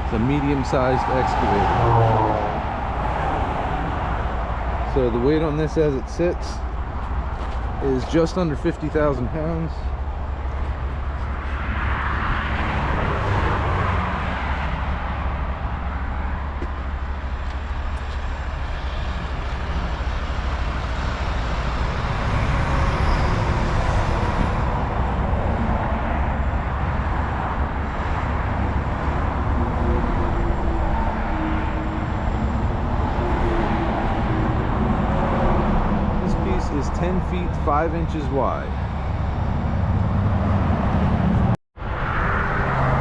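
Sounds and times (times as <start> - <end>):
road traffic noise: 0.0 - 43.0
vehicle engine rumble: 0.0 - 43.0.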